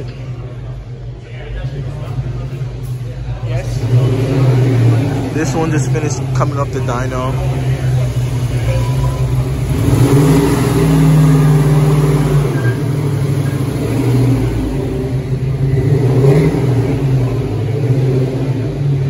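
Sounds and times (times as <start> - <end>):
car engine driving slowly: 0.0 - 19.0.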